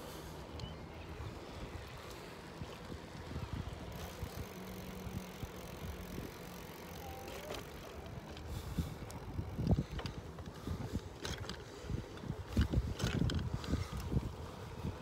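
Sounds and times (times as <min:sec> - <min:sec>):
wind and tyre rumble: 0:00.0 - 0:15.0.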